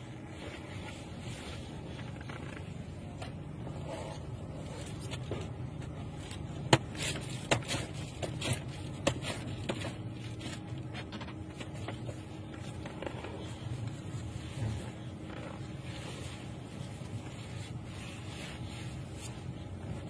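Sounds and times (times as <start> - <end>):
low hum inside a car: 0.0 - 20.0.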